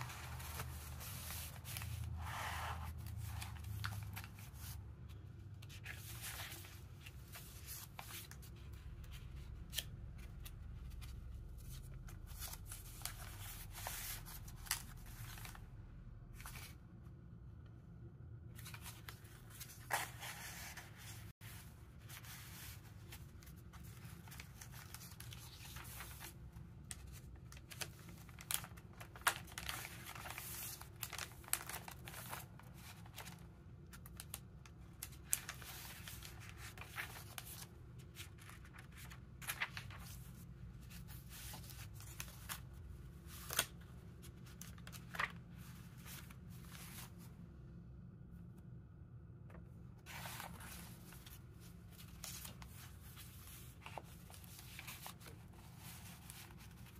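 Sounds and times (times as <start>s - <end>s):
paper rustling and crinkling: 0.0s - 15.6s, 18.6s - 47.3s, 50.0s - 56.9s
low steady hum: 0.0s - 56.9s.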